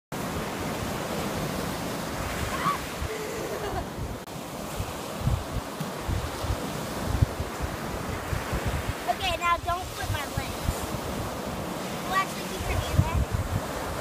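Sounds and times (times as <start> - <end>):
ocean surf breaking: 0.2 - 14.0
wind buffeting microphone: 0.2 - 14.0.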